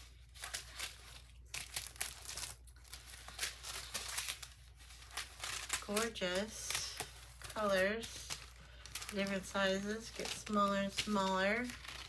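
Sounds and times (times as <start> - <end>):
plastic and card rustling: 0.0 - 12.0.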